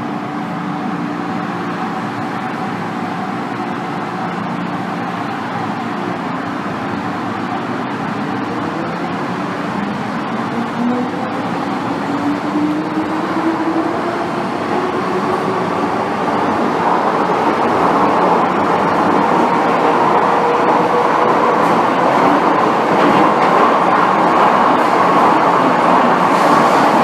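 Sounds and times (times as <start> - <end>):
train running and rail noise: 0.0 - 27.0.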